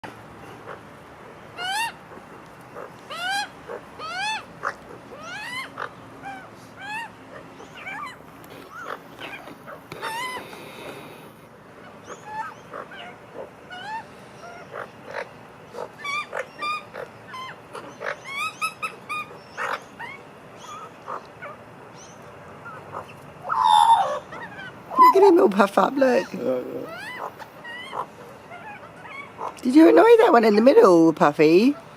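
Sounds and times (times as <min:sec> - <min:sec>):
magpies calling: 0:00.4 - 0:31.9.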